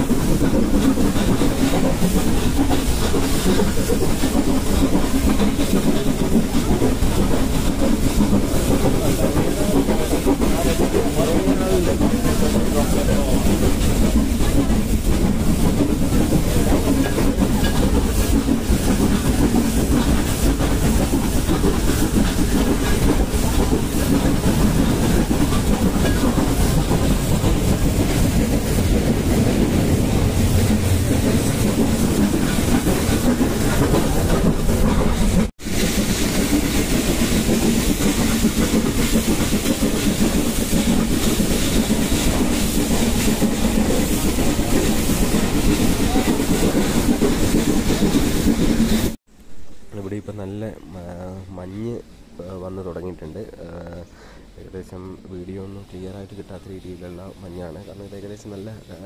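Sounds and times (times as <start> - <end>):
train coaches running on track: 0.0 - 59.0.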